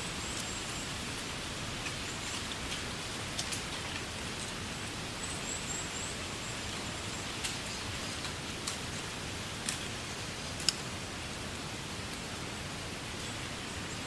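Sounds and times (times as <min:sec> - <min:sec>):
wind rustling through reeds: 0:00.0 - 0:14.0.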